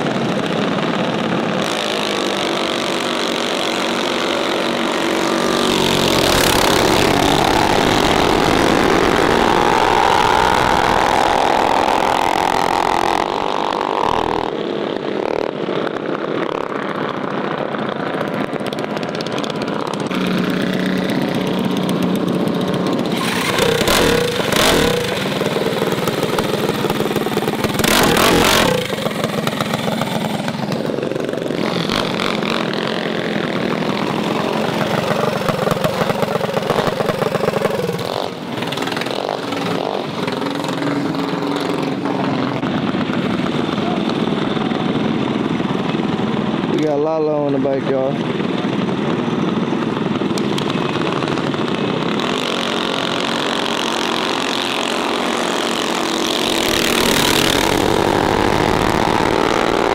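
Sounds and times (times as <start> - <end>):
mini bike engines revving: 0.0 - 59.9.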